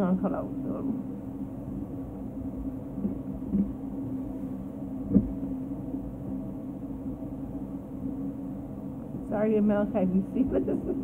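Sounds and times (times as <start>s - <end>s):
low appliance hum: 0.0s - 11.0s.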